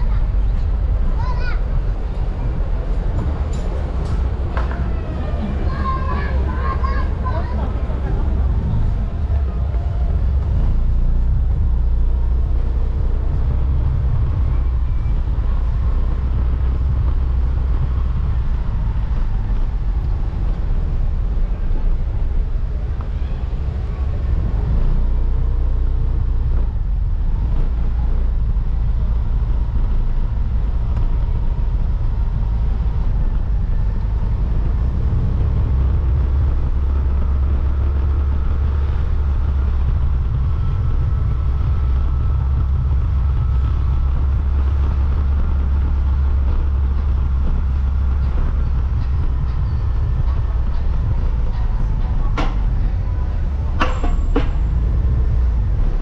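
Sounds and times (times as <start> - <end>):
motorcycle engine rumbling: 0.0 - 56.0.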